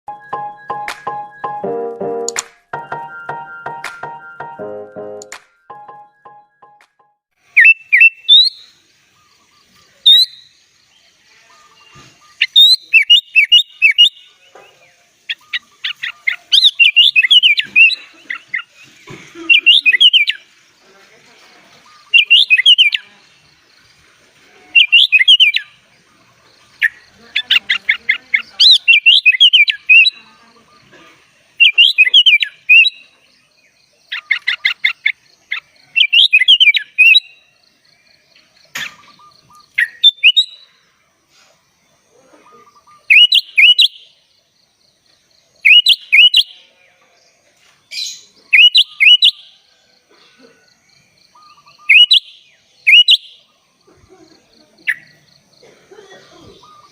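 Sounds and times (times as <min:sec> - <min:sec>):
bulbul singing: 0:00.1 - 0:20.8, 0:21.8 - 0:24.0, 0:24.6 - 0:40.9, 0:42.3 - 0:44.5, 0:45.5 - 0:46.7, 0:47.9 - 0:49.6, 0:51.1 - 0:54.0.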